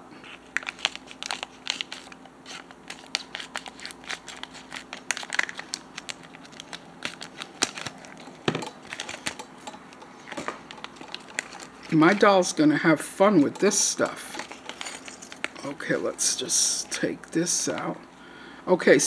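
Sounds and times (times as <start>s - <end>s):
plastic bag crinkling: 0.2s - 18.1s.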